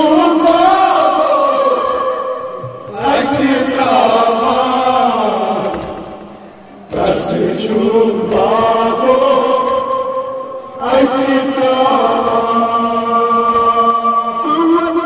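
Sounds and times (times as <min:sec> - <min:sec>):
men chanting into a microphone: 0:00.0 - 0:06.2, 0:06.8 - 0:15.0.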